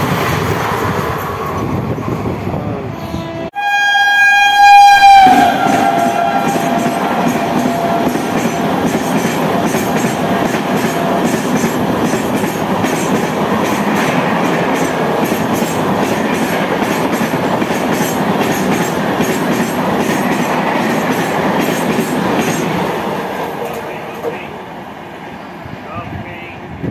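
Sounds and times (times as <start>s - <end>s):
train wheels rushing on rails: 0.0s - 2.8s, 4.8s - 26.9s.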